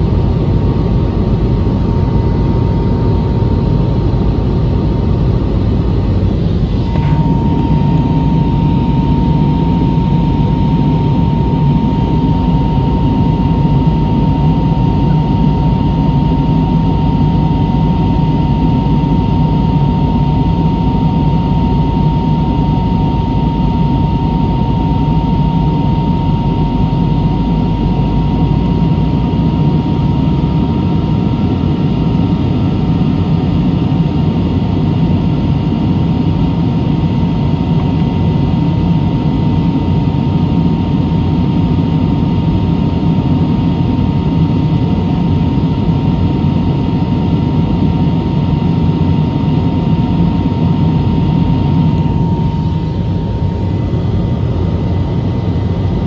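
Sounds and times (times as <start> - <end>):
jet engines and air rush: 0.0 - 56.0
thin steady whine: 0.0 - 56.0.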